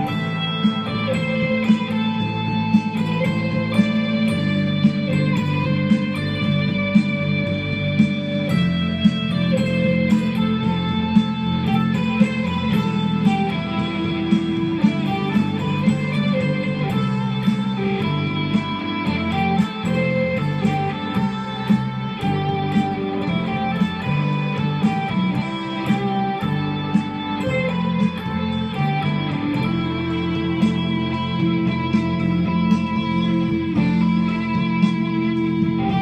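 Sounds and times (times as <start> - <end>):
electric guitar lead melody: 0.0 - 36.0
low ringing guitar notes: 0.0 - 36.0.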